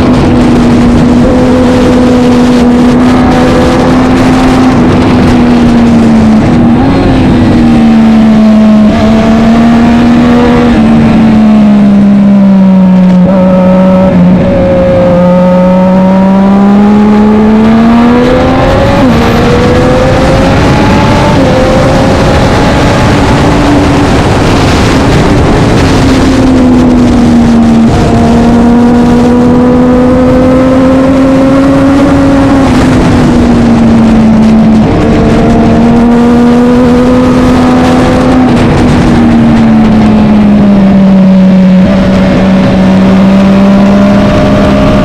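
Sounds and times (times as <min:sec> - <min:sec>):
racing motorcycle engine revving: 0:00.0 - 0:45.0.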